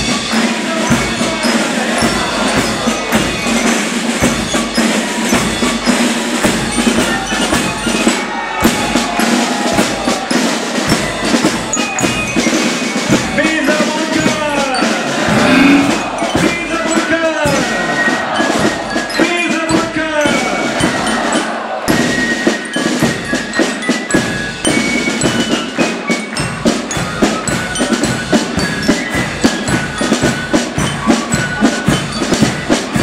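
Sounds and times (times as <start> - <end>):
marching band playing: 0.0 - 33.0
steady drum beat: 0.0 - 33.0.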